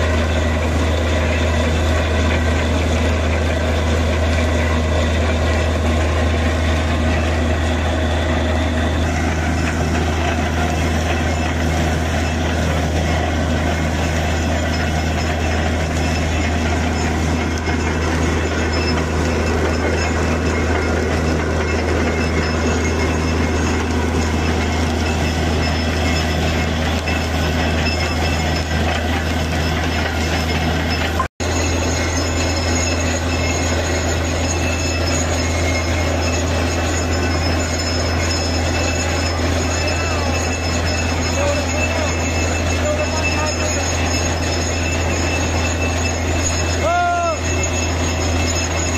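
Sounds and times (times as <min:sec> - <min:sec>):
continuous rushing noise: 0:00.0 - 0:48.9
drilling rig droning: 0:00.0 - 0:48.9.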